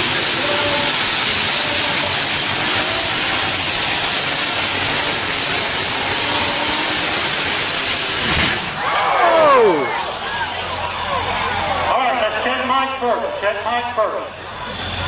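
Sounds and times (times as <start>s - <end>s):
tractor engine roaring: 0.0s - 15.0s.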